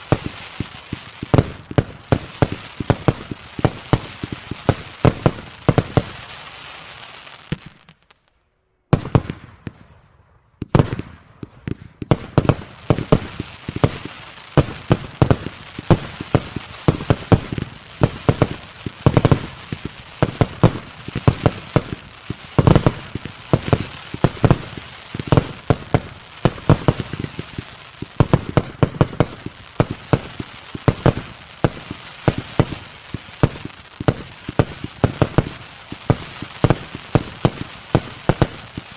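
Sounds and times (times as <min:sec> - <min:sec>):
fireworks bangs: 0:00.0 - 0:08.3, 0:08.9 - 0:38.9
fireworks crackle: 0:00.0 - 0:10.0, 0:10.6 - 0:38.9.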